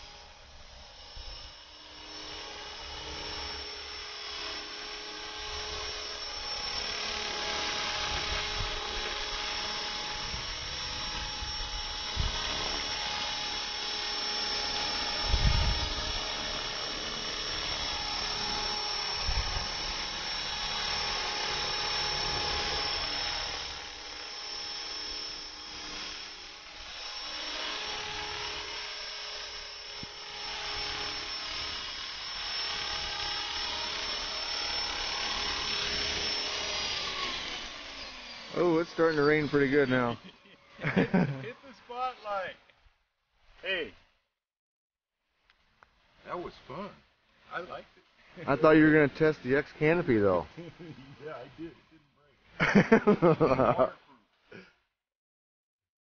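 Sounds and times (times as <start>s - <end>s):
rc helicopter whining: 0.0s - 42.8s, 43.4s - 44.2s, 45.7s - 54.8s.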